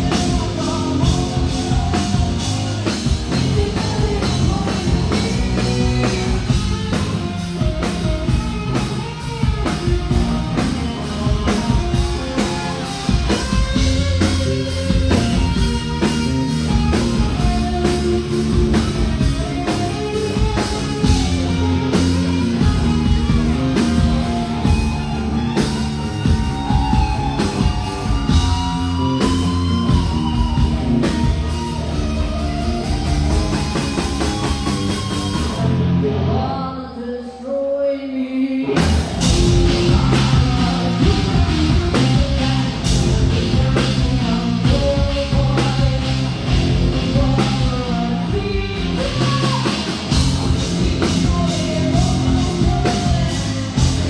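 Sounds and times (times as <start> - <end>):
rock band playing: 0.0 - 36.3, 38.7 - 54.0
person singing: 0.0 - 54.0.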